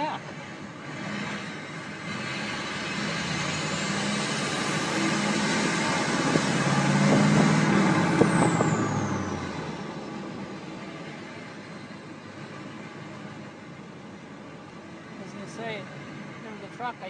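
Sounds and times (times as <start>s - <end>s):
heavy vehicle engine passing: 0.0s - 17.0s.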